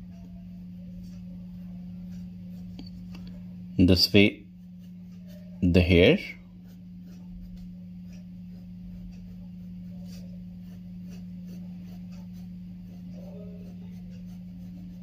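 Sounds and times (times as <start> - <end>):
pencil scratching on paper: 0.0 - 15.0
steady low hum: 0.0 - 15.0.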